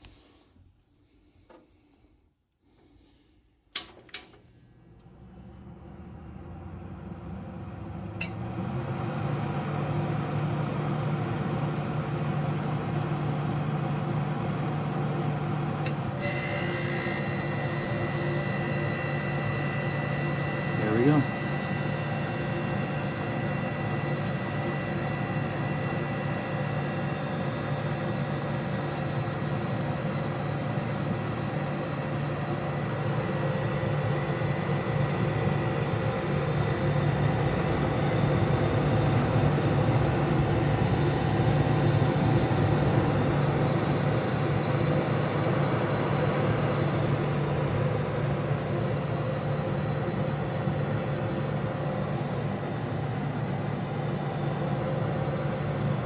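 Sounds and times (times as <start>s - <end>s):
dehumidifier humming: 0.0s - 56.0s.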